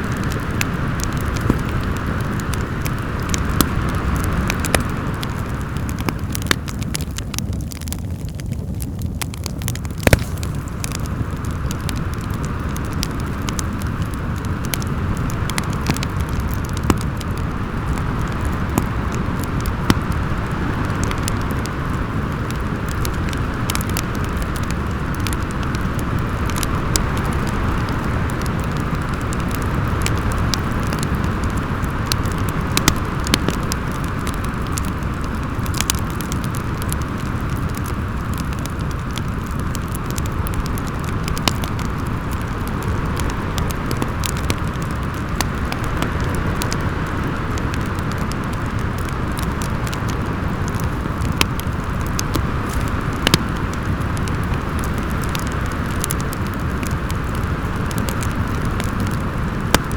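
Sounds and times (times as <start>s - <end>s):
fireplace crackling and popping: 0.0s - 59.9s.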